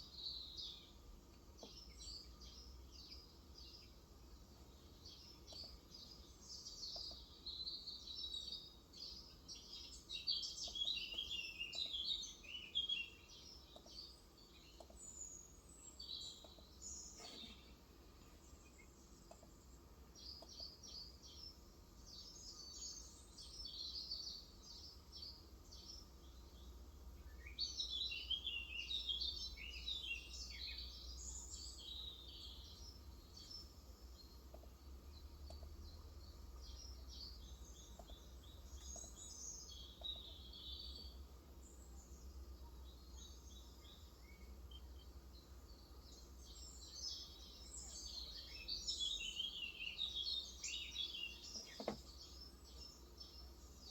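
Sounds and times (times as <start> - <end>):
faint low hum: 0.0 - 53.9
small birds chirping: 0.0 - 53.9.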